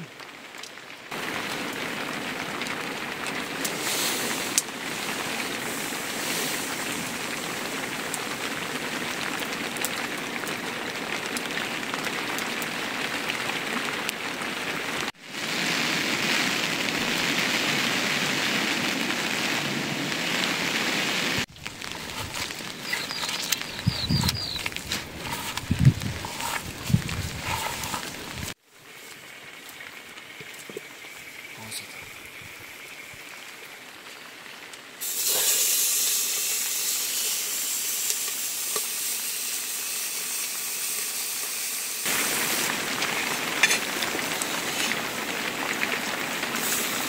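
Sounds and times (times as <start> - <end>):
rain falling: 0.0 - 47.0.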